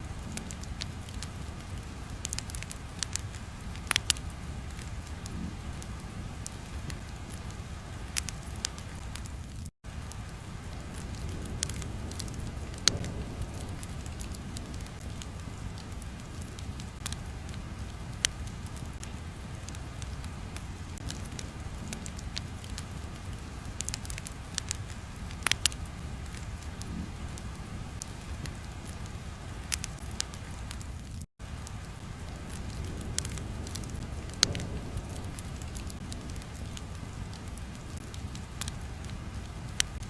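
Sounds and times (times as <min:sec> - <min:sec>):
fire popping and crackling: 0:00.0 - 0:40.0
fire rumbling: 0:00.0 - 0:40.0.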